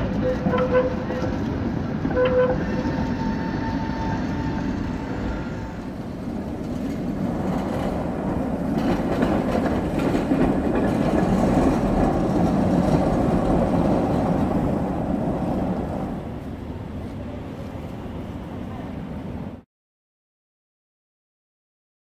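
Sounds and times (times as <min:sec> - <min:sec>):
wheels clacking over track crossings: 0:00.0 - 0:19.1
tram wheels rumbling on rails: 0:00.0 - 0:19.6.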